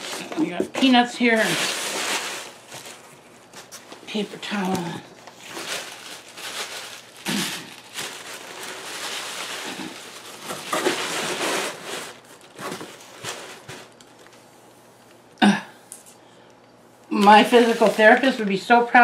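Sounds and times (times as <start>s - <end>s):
tissue paper rustling and crinkling: 0.0s - 14.5s, 17.1s - 19.0s.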